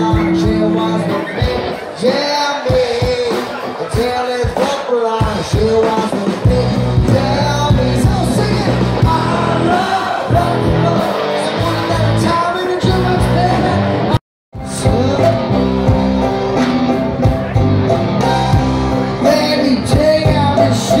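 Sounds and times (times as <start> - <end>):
person singing: 0.0 - 16.2, 18.9 - 21.0
rock band playing: 0.0 - 21.0.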